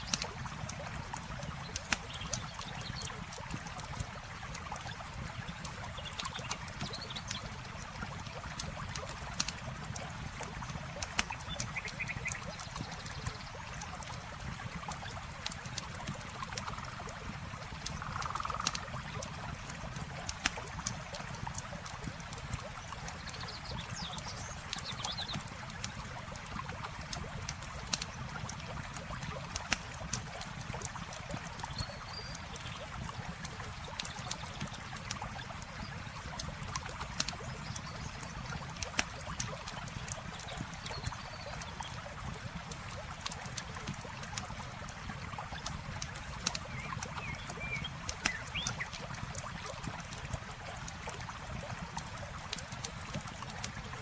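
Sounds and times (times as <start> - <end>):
campfire crackling and popping: 0.0 - 54.0
flowing water: 0.0 - 54.0.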